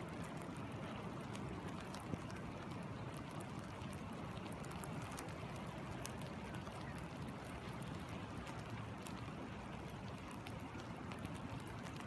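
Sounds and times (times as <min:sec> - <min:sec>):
raindrops ticking on water: 0:00.0 - 0:12.0
river flowing: 0:00.0 - 0:12.0.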